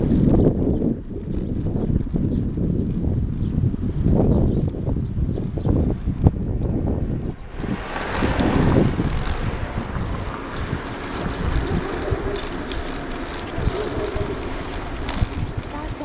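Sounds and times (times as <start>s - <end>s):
bicycle rattle and tyre noise: 0.0s - 16.0s
wind rumbling on microphone: 0.0s - 16.0s.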